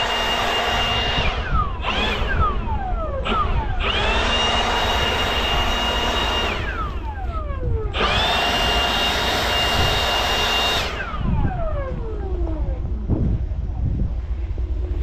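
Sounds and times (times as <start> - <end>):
leaf blower whine and rushing air: 0.0 - 13.5.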